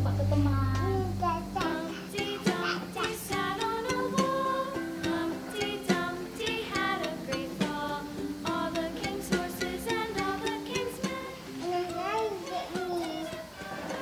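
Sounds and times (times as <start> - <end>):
plucked string tune: 0.0 - 14.0.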